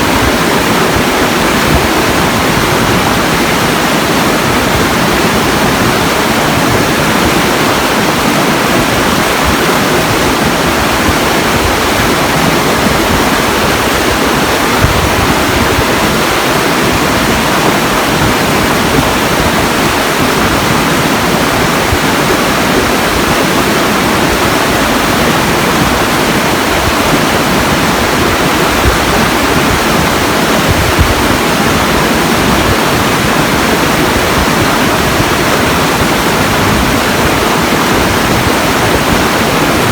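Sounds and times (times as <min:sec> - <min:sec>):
rushing water roar: 0:00.0 - 0:39.9.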